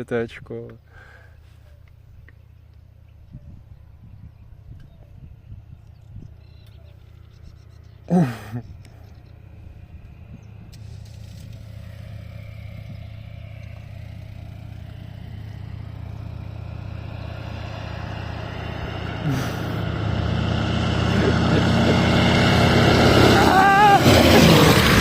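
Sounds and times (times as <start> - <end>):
small plane engine humming: 0.8 - 25.0.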